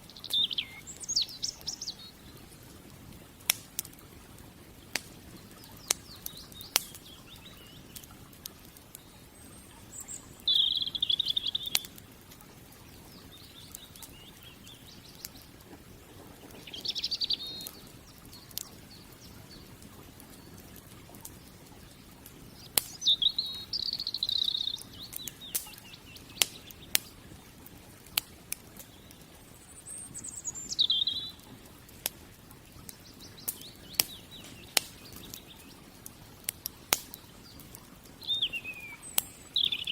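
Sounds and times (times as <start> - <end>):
birds chirping: 0.0 - 39.9
firewood crackling and popping: 0.0 - 39.9.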